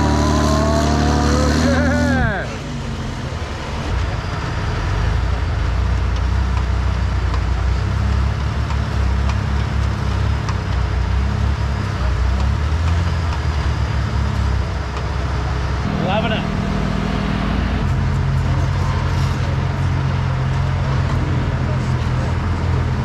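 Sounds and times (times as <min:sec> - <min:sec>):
buggy engine revving under load: 0:00.0 - 0:23.0.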